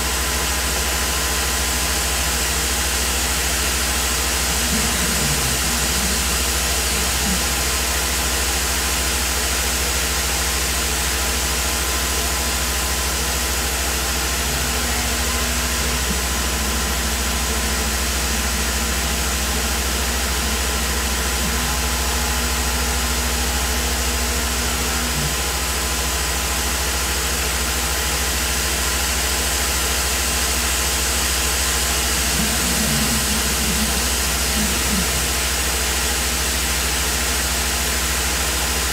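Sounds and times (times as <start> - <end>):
machine low hum: 0.0 - 38.9.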